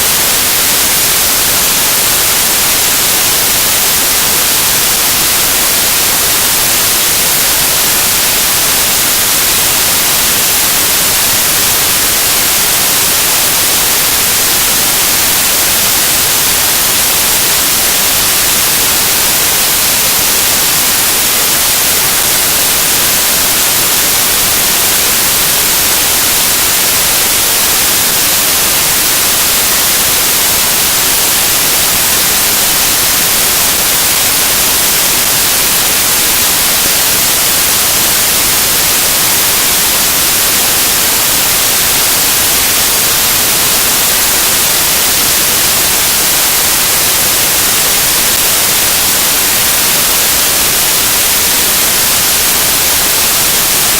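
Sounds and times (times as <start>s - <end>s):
loud static hiss: 0.0s - 53.9s.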